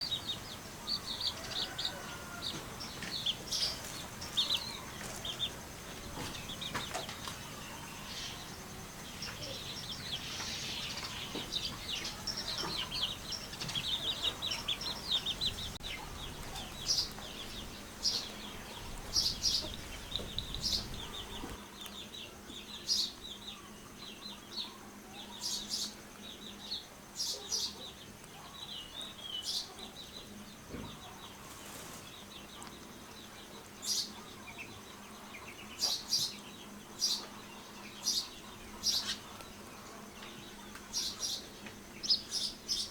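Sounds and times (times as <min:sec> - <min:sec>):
chickens chirping and clucking: 0:00.0 - 0:22.0, 0:27.2 - 0:42.9.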